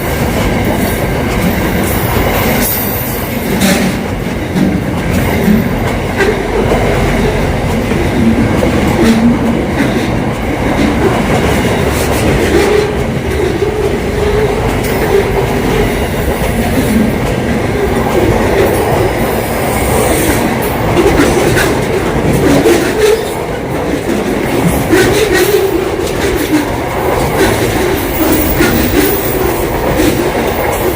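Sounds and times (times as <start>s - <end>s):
train wheels rumbling on rails: 0.0s - 30.9s.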